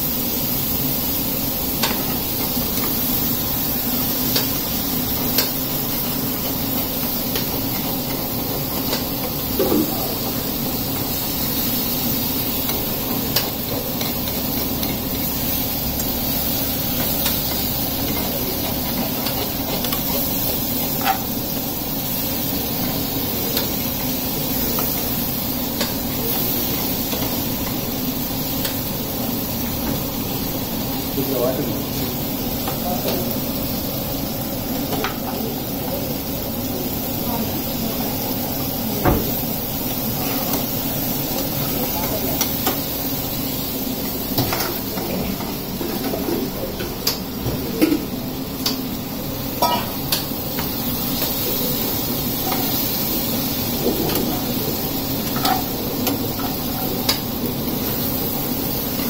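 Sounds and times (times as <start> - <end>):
pan sizzling: 0.0 - 59.0.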